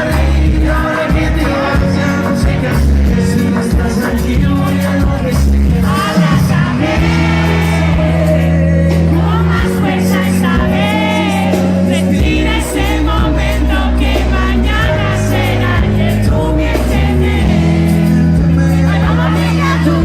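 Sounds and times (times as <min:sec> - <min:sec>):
pop song through loudspeakers: 0:00.0 - 0:20.0.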